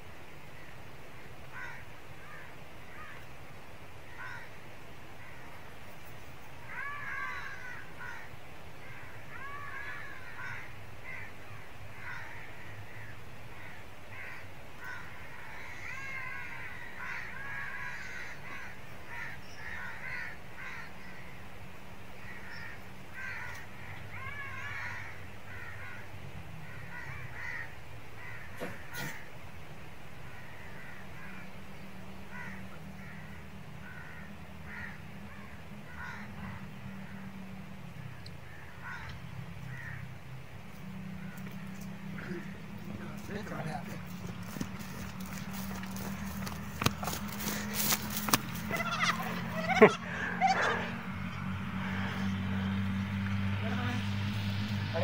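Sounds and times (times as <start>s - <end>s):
birds calling: 0.5s - 3.4s, 4.0s - 55.0s.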